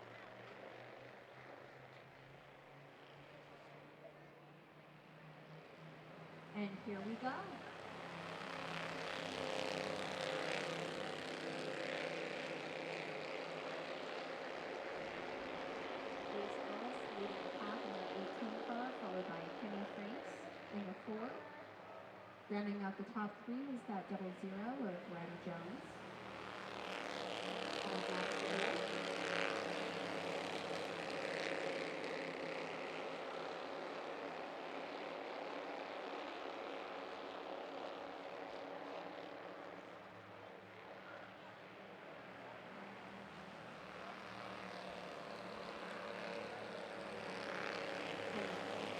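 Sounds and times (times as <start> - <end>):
race car engines running together: 0.0 - 48.9.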